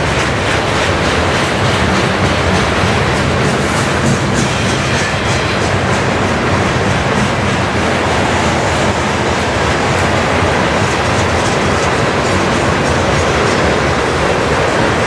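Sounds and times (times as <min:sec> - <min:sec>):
train wheels rolling on rail: 0:00.0 - 0:15.0.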